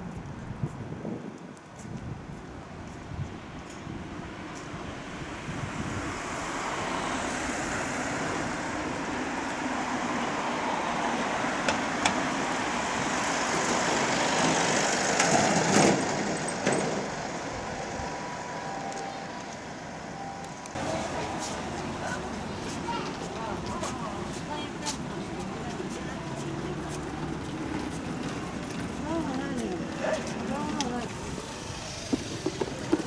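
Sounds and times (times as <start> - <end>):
vehicle passing rumble: 4.2 - 33.0.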